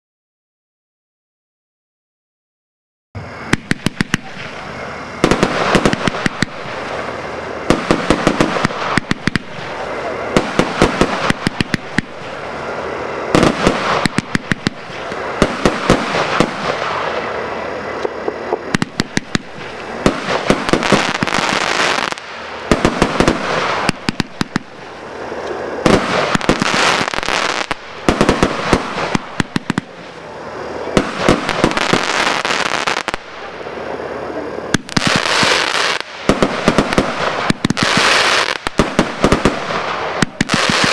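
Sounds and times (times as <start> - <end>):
fireworks crackle: 3.2 - 40.9
fireworks shots: 3.2 - 40.9.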